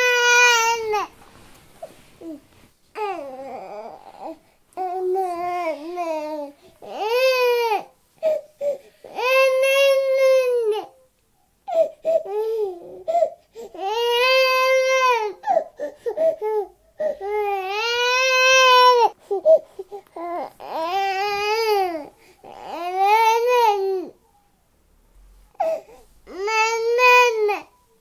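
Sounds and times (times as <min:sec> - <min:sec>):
baby crying: 0:00.0 - 0:01.1, 0:03.0 - 0:11.0, 0:11.7 - 0:24.2, 0:25.6 - 0:27.8.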